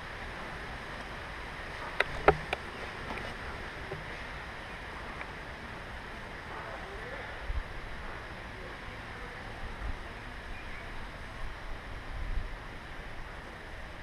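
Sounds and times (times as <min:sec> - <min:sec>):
wind on microphone: 0:00.0 - 0:08.8, 0:09.4 - 0:14.0.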